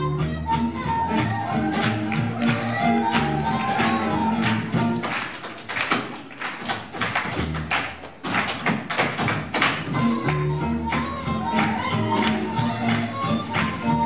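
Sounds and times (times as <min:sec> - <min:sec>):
swing band playing: 0:00.0 - 0:06.3, 0:07.1 - 0:08.2, 0:09.1 - 0:14.0
tap shoes on stage floor: 0:01.2 - 0:13.8.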